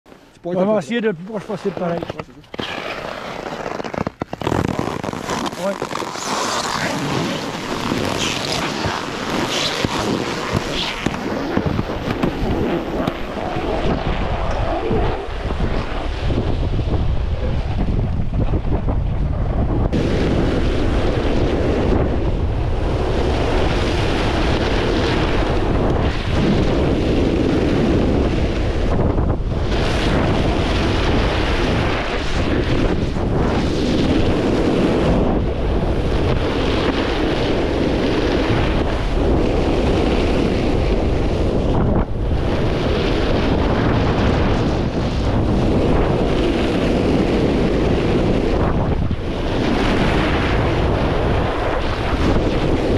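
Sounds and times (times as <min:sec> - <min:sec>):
snowboard edges carving snow: 0:00.1 - 0:52.9
wind buffeting microphone: 0:04.3 - 0:52.9.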